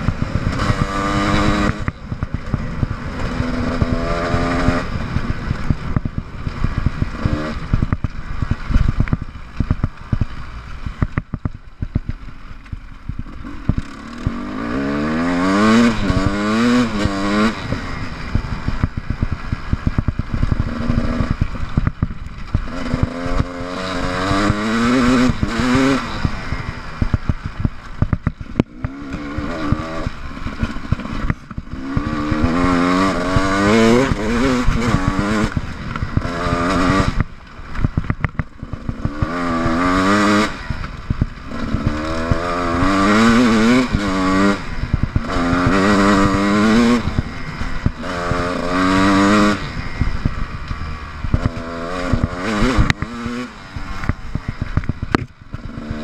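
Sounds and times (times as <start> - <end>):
knocks and clatter of bike: 0.0 - 56.0
motorcycle engine revving: 0.0 - 56.0.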